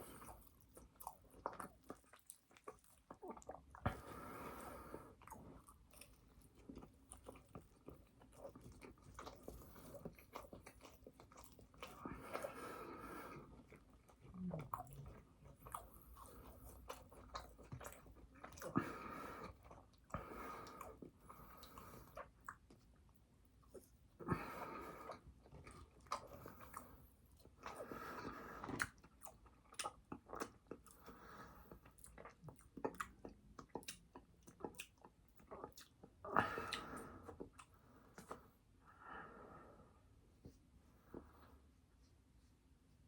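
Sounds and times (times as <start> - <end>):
chewing fast food: 0.0 - 38.6.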